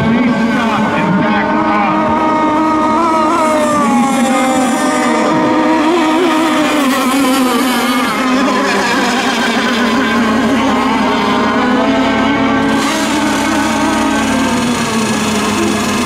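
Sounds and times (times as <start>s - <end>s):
high-pitched boat engine buzz: 0.0s - 16.0s.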